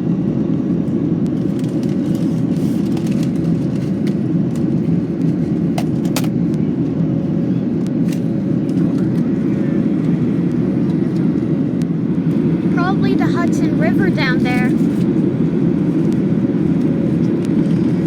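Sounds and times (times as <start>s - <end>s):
airplane cabin roar: 0.0s - 18.0s.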